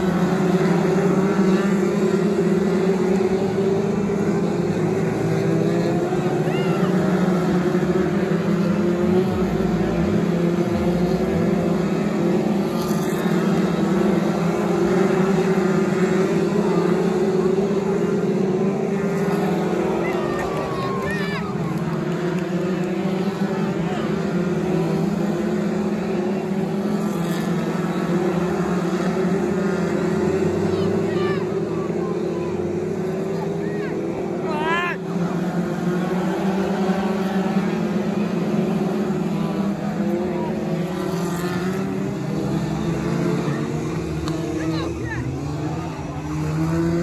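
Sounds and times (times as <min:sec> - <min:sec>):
stock car engines racing: 0:00.0 - 0:47.0.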